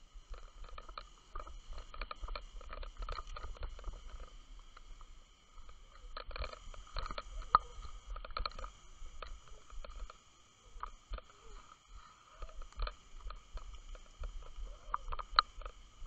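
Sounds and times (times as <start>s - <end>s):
faint steady whine: 0.0s - 16.0s
low rumble of moving water: 0.0s - 16.0s
underwater clicks and knocks: 0.2s - 16.0s.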